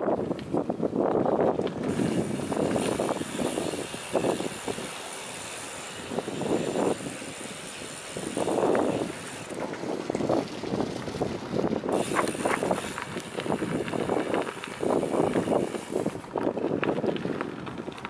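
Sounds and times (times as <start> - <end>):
bicycle tyres rumbling on wooden planks: 0.0 - 18.0.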